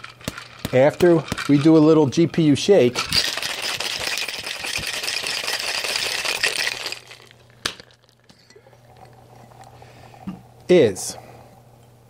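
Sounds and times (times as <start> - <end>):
ice rattling in cocktail shaker: 0.0 - 9.8.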